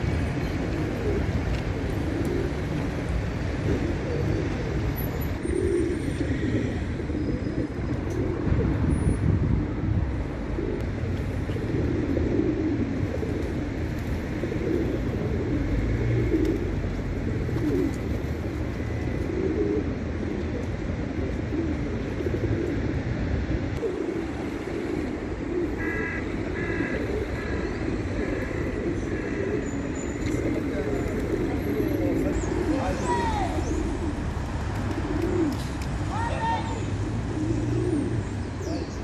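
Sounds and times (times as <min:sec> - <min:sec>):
pigeons cooing: 0:00.0 - 0:39.0.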